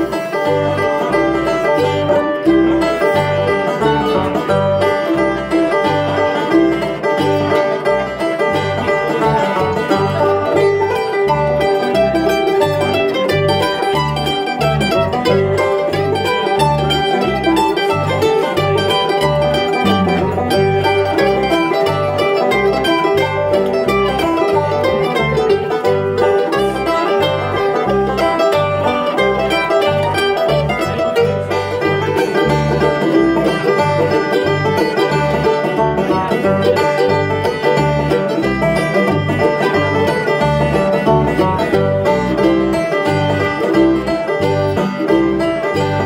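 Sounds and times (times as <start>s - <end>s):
banjo picking: 0.0s - 46.0s
bass guitar notes: 0.0s - 46.0s
mandolin picking: 0.0s - 46.0s.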